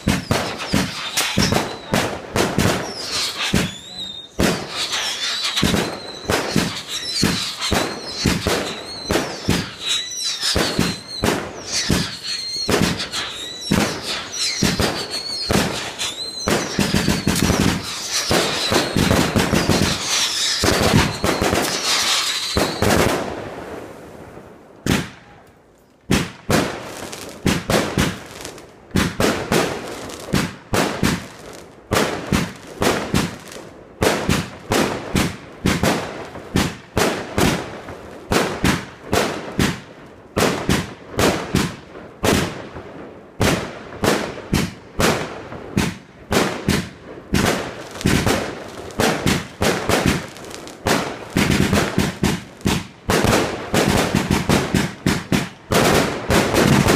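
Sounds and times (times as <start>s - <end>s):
fireworks bursting with sharp bangs: 0.0s - 25.4s, 26.0s - 56.9s.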